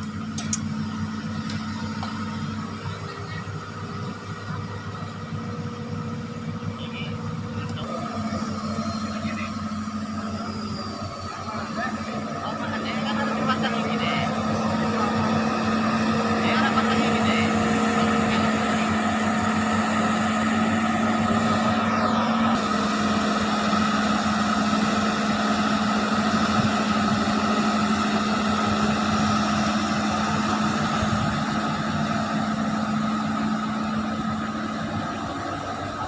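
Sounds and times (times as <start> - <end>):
diesel engine running: 0.0 - 36.0
falling whine: 0.0 - 36.0.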